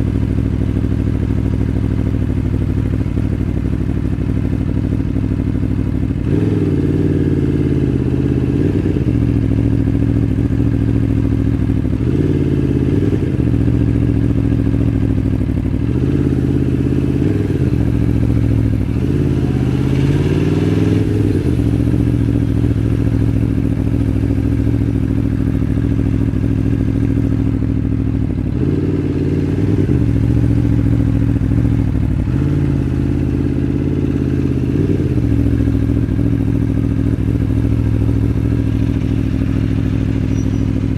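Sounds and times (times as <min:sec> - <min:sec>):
motorcycle engine throttle blips: 0:00.1 - 0:40.9.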